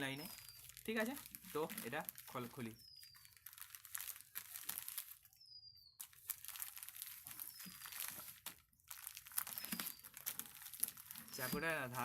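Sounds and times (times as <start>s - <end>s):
parcel packaging crinkling and tearing: 0.0s - 5.4s, 6.0s - 12.0s.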